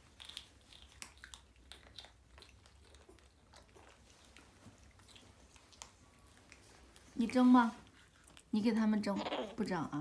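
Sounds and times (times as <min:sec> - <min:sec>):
baby monkey chewing: 0:00.0 - 0:09.6.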